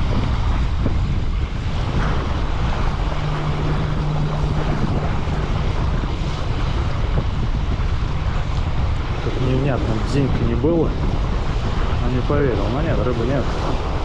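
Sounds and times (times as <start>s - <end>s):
gusty wind buffeting microphone: 0.0s - 14.0s
low steady hum: 0.0s - 14.0s
waves splashing against bank: 0.0s - 14.0s.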